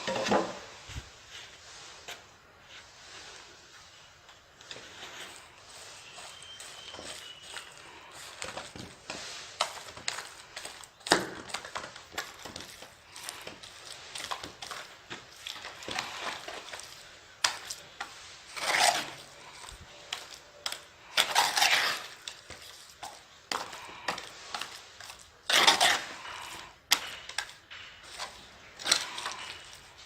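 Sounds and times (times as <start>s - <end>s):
tool scraping tile: 4.6s - 30.0s.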